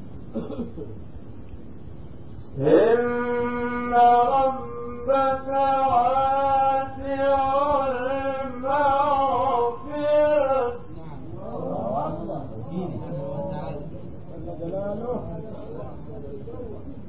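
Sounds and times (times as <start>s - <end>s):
man reciting melodically: 2.6s - 17.0s.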